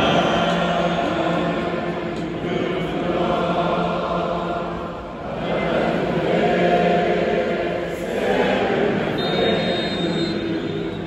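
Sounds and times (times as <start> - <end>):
stadium crowd chanting: 0.0 - 11.0.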